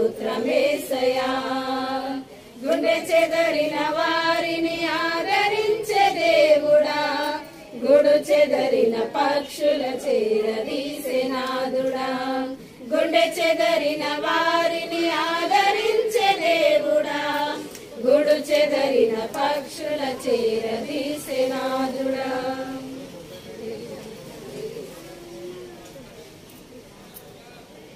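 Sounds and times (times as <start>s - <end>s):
group of women singing a hymn: 0.0s - 25.0s.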